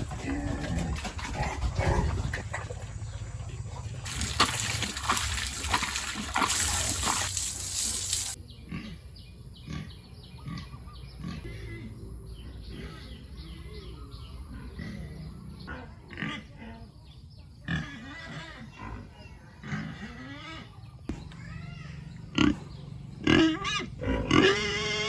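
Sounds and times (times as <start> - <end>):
pigs grunting: 0.0 - 7.3, 8.6 - 13.4, 14.4 - 17.0, 17.6 - 21.2, 22.1 - 25.0.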